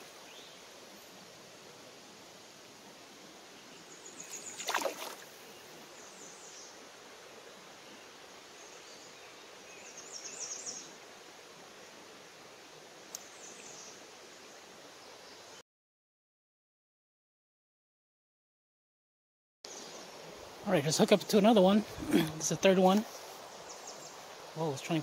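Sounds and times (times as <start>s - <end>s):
rippling creek water: 0.0s - 15.2s, 19.7s - 25.0s.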